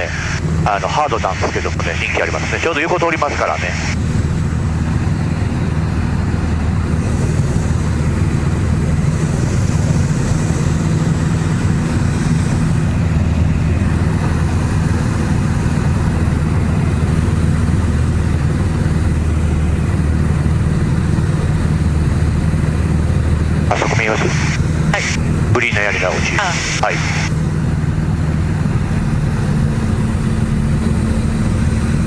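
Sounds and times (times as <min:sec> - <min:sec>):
propeller plane engine drone: 0:00.0 - 0:32.0.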